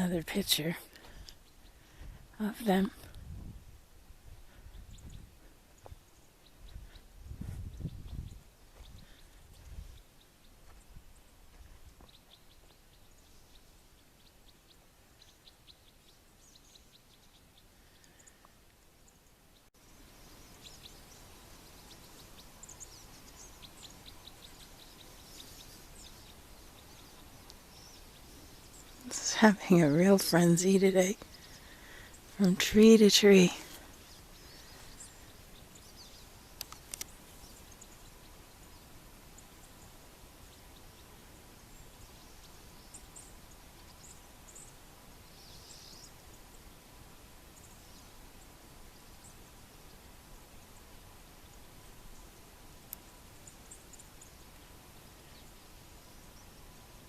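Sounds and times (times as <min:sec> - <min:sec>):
small songbirds chirping: 0:00.0 - 0:57.0
steady background hiss: 0:00.0 - 0:57.0.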